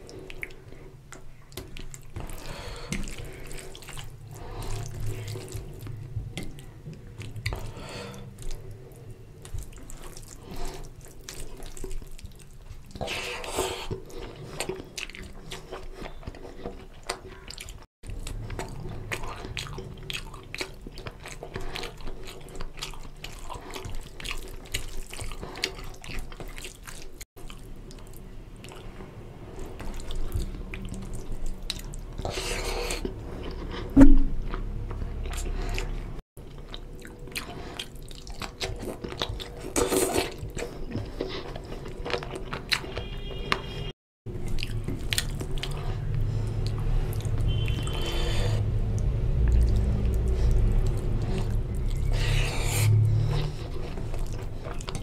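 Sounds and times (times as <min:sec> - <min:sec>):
chewing: 0:00.0 - 0:43.7, 0:44.3 - 0:55.0.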